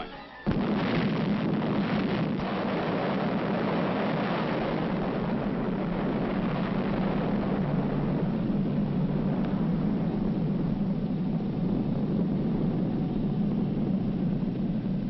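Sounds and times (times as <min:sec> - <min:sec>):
explosion low rumble: 0:00.5 - 0:15.0.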